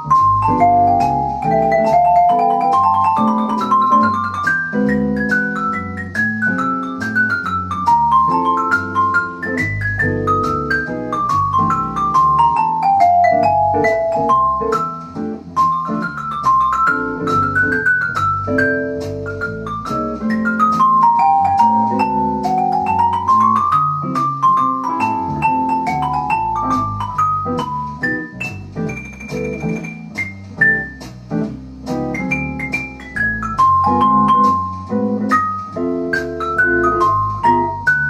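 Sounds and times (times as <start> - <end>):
vibraphone jazz solo: 0.0 - 38.0.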